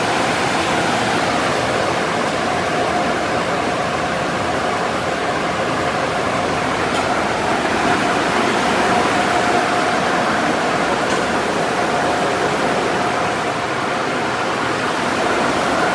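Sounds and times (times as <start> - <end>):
car wash machinery: 0.0 - 15.9.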